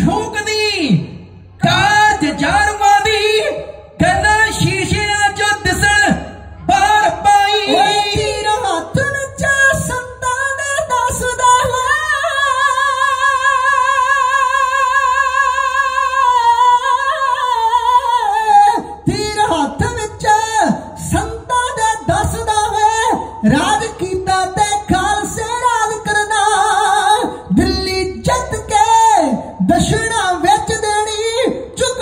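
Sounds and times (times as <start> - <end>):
man singing through pa: 0.0 - 32.0.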